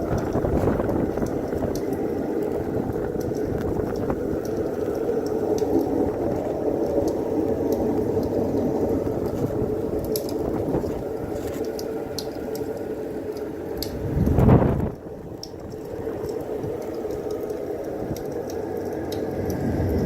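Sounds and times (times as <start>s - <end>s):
blizzard wind rushing: 0.0s - 12.2s, 13.7s - 18.2s, 19.2s - 20.0s.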